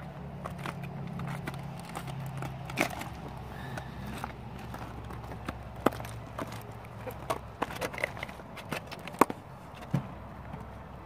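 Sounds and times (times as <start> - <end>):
oyster shells and stones crunching: 0.4 - 9.4.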